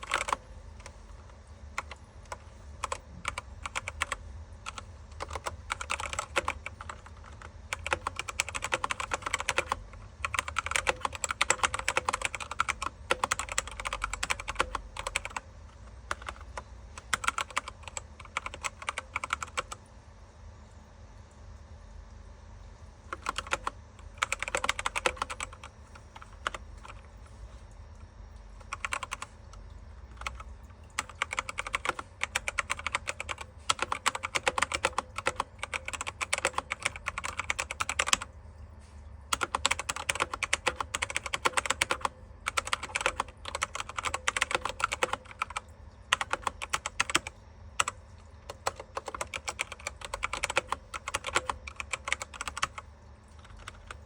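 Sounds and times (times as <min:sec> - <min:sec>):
mechanical keyboard typing: 0:00.0 - 0:19.8, 0:23.1 - 0:27.2, 0:28.6 - 0:38.3, 0:39.3 - 0:54.0.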